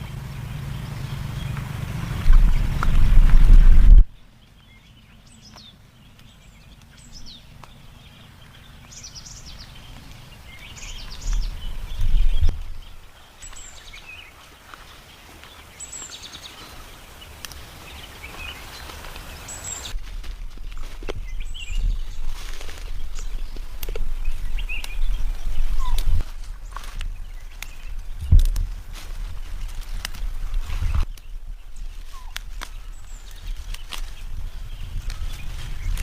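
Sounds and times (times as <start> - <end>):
low outdoor rumble: 0.0 - 36.0
small birds chirping: 0.0 - 36.0.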